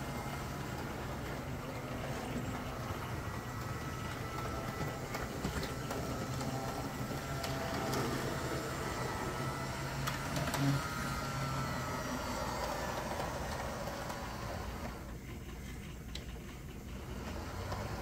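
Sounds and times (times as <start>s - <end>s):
model locomotive motor whirring: 0.0s - 18.0s
wheels clicking on rails: 0.0s - 18.0s.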